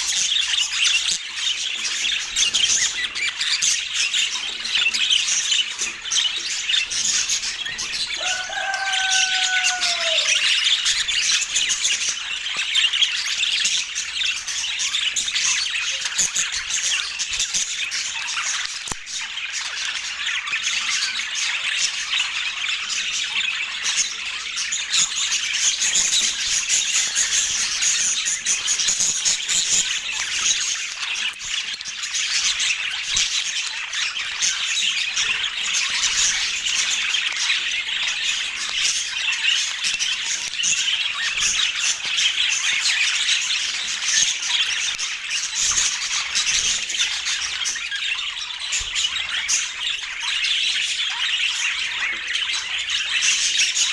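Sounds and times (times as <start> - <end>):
budgerigars chattering and squawking: 0.0 - 53.9.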